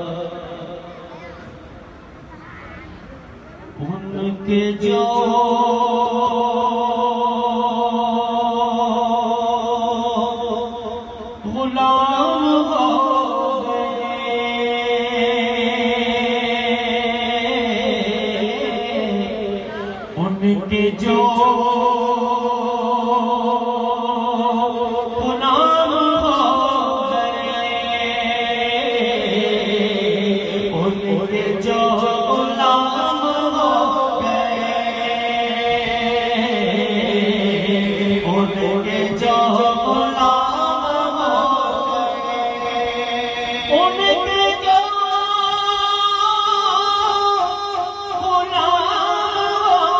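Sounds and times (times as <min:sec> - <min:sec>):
man singing into a microphone: 0:00.0 - 0:01.2, 0:03.7 - 0:49.9.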